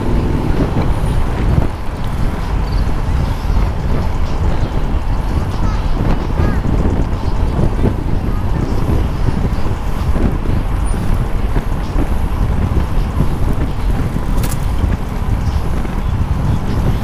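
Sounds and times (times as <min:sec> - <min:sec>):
bicycle road noise: 0:00.0 - 0:17.0
wind rush: 0:00.0 - 0:17.0.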